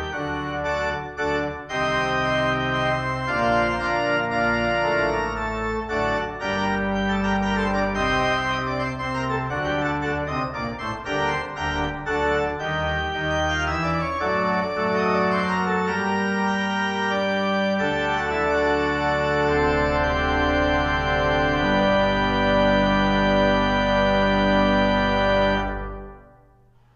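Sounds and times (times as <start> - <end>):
deep organ pedal bass: 0.0 - 26.4
pipe organ chords: 0.0 - 26.7.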